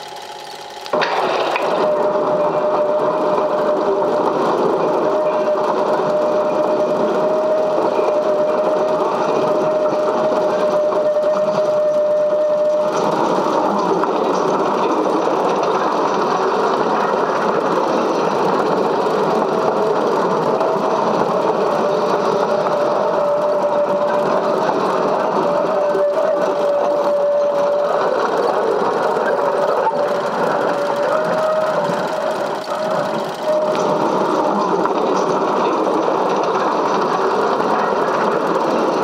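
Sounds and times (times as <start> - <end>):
film projector whirring: 0.0 - 39.0.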